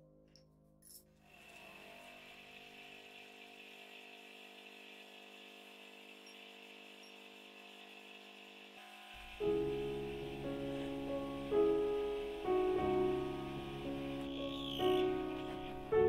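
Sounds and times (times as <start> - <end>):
milling machine cutting metal: 1.3 - 16.0.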